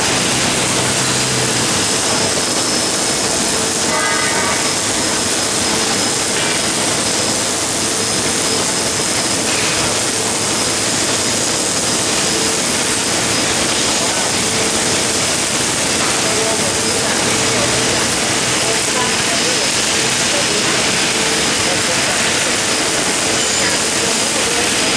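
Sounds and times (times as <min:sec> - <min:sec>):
welding arc hiss: 0:00.0 - 0:24.9.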